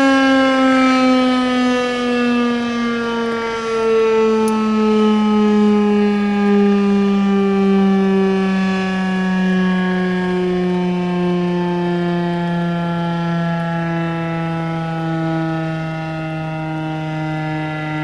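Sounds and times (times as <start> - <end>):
warning siren winding down: 0.0 - 18.0.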